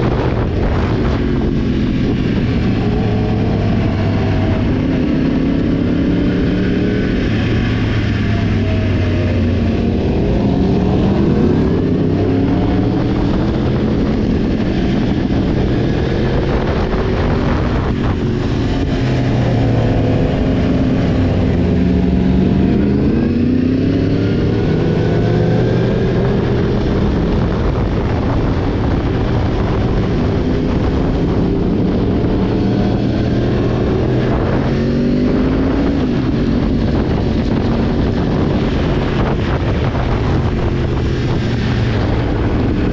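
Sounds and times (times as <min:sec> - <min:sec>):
motorcycle engine revving: 0:00.0 - 0:42.9
wind rushing: 0:00.0 - 0:42.9.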